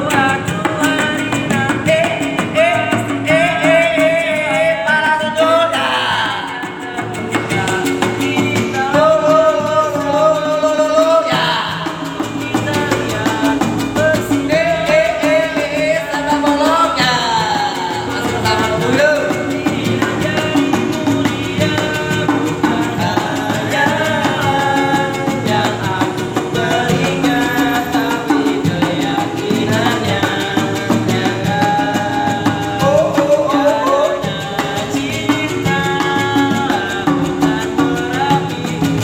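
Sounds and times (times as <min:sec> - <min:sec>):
instrumental backing: 0:00.0 - 0:39.0
person singing pop ballad: 0:00.0 - 0:39.0.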